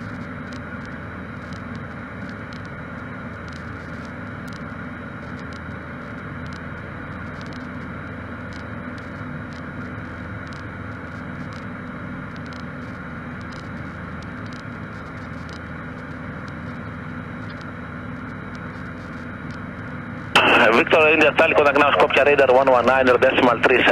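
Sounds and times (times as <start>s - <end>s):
small airplane engine drone: 0.0s - 23.9s.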